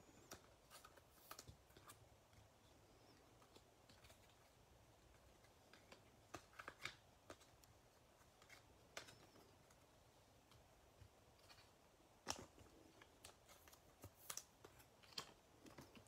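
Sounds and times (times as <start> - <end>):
trading cards rustling and clicking: 0.1 - 16.0.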